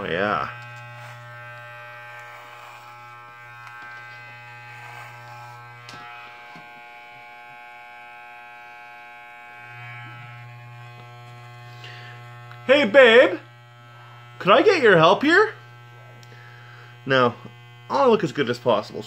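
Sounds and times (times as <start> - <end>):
electric hair clippers buzzing: 0.0 - 19.0.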